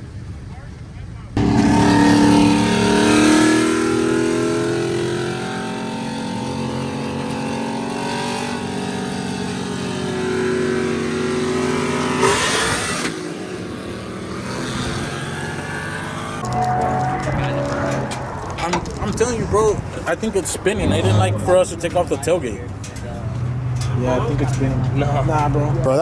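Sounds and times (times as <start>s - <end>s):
vehicle engine revving: 1.4s - 26.0s.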